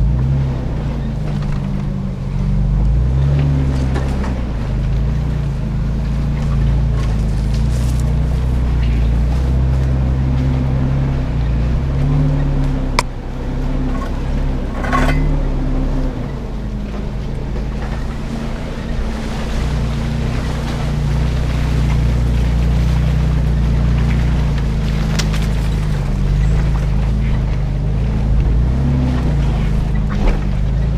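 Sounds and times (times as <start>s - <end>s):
truck engine droning: 0.0s - 30.9s.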